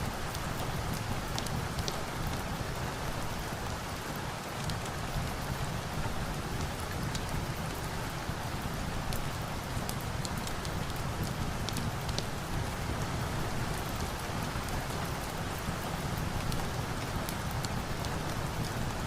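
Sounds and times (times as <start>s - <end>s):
steady rain: 0.0s - 19.0s
wood fire crackles: 0.0s - 19.0s.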